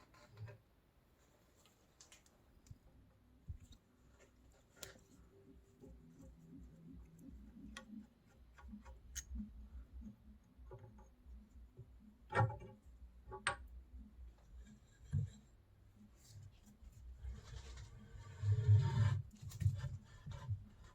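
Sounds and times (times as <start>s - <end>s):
faint low hum: 0.0s - 20.9s.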